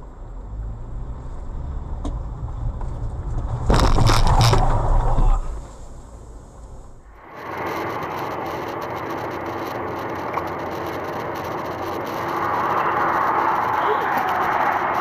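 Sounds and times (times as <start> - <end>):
engine and road hum in car: 0.0 - 15.0.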